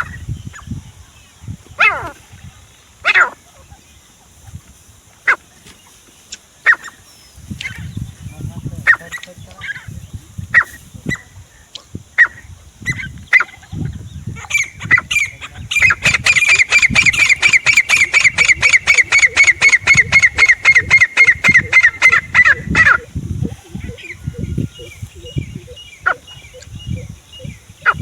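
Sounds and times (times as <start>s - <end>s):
francolin calling: 1.8s - 4.5s, 6.2s - 28.0s.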